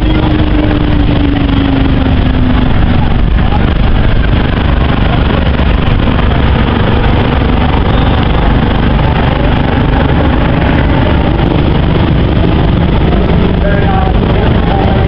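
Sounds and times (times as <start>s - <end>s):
aircraft engines overhead: 0.0s - 15.0s.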